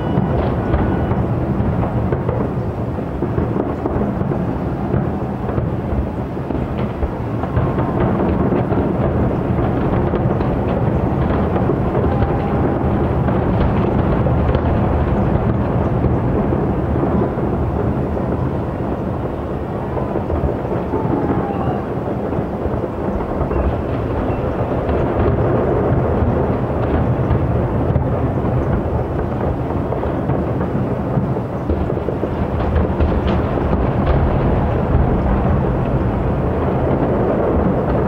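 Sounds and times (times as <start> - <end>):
distant fireworks booming: 0.0 - 38.0.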